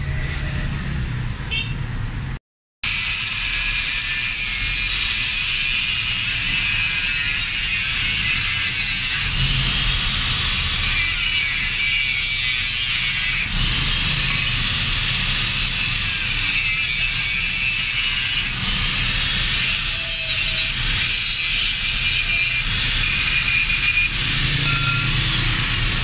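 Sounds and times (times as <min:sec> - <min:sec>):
angle grinder grinding metal: 0:02.9 - 0:26.0.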